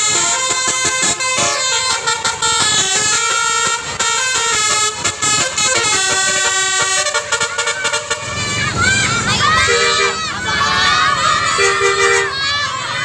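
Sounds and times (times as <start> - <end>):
multi-tone bus horn melody: 0.0 - 12.8.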